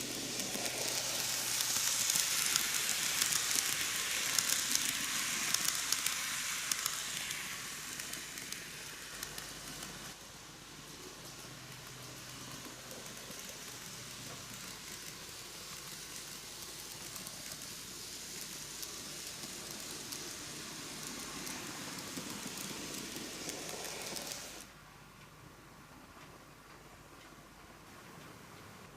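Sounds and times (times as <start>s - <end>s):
model train running on track: 0.0s - 24.8s.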